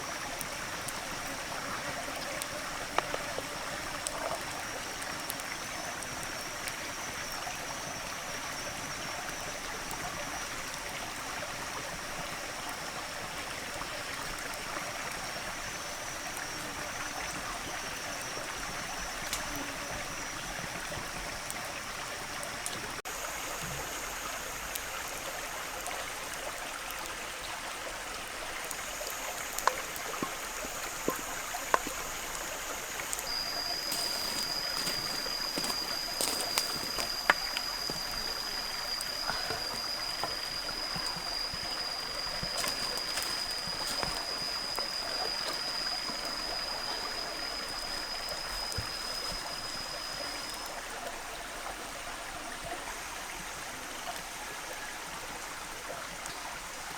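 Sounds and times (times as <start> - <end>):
rushing water-like noise: 0.0 - 56.9.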